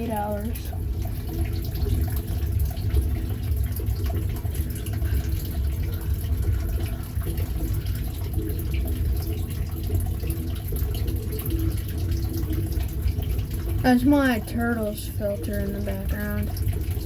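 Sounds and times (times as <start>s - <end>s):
water trickling into tank: 0.0s - 17.0s.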